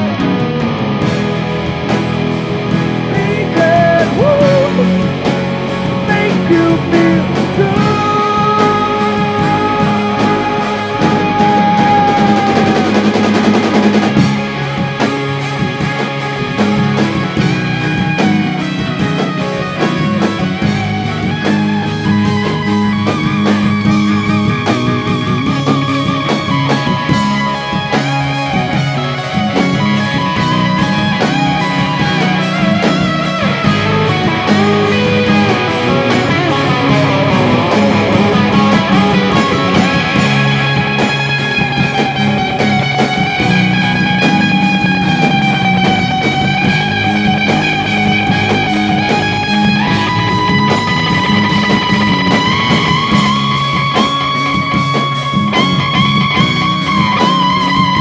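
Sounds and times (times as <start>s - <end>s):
bass guitar: 0.0s - 58.0s
drums: 0.0s - 58.0s
electric guitar lead line: 0.0s - 58.0s.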